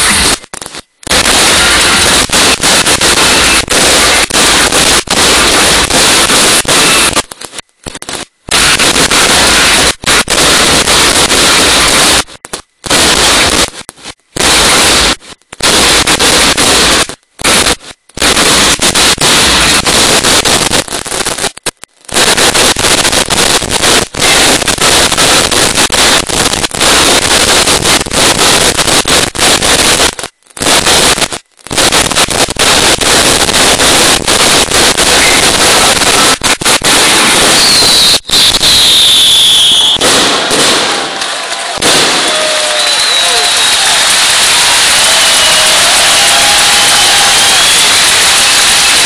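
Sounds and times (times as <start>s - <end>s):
fireworks and firecrackers barrage: 0.0s - 49.0s.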